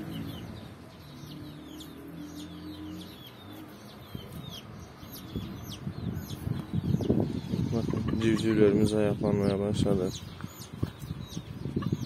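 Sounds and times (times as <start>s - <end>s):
chicks chirping: 0.0s - 12.0s
hen clucking: 1.7s - 12.0s.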